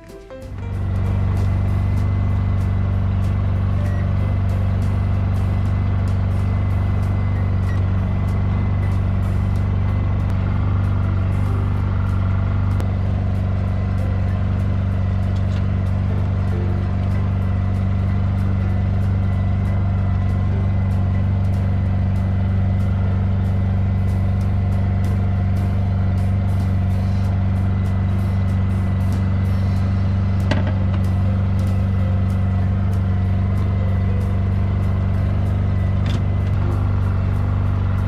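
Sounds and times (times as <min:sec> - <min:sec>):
small engine running steadily: 0:00.0 - 0:38.0.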